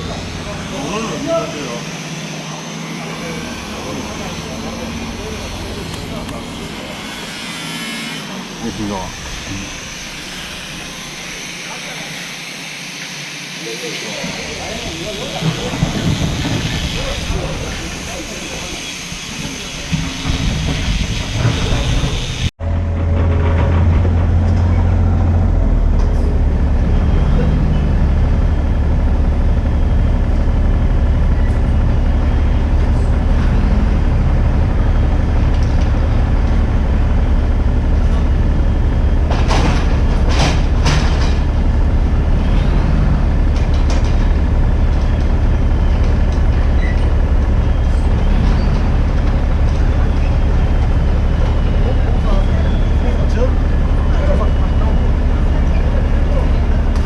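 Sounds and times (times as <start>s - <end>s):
excavator diesel engine humming: 0.0s - 12.8s, 13.8s - 57.0s.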